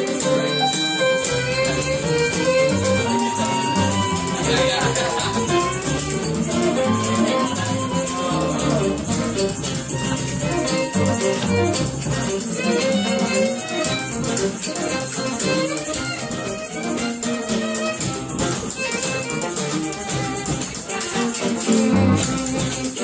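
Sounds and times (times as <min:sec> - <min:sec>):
upright bass: 0:00.0 - 0:17.2, 0:17.8 - 0:23.0
acoustic guitar: 0:00.0 - 0:23.0
shaker rattling: 0:01.2 - 0:23.0.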